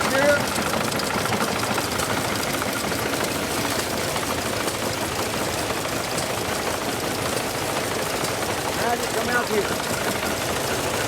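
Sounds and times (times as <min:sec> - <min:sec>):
feed grinder engine running: 0:00.0 - 0:11.0
mechanical knocking clatter: 0:00.0 - 0:11.0.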